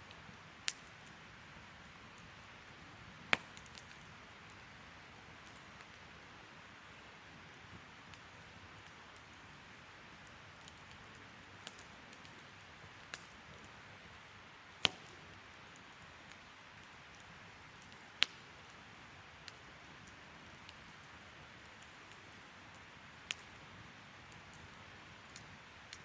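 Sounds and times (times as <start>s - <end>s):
campfire hiss: 0.0s - 26.0s
fire crackles and pops: 0.0s - 26.0s.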